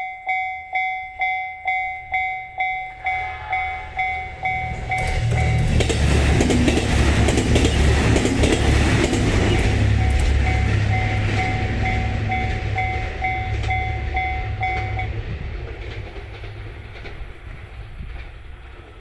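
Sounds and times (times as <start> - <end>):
level crossing warning bell: 0.0 - 15.7
train rumbling over rails: 0.2 - 19.0.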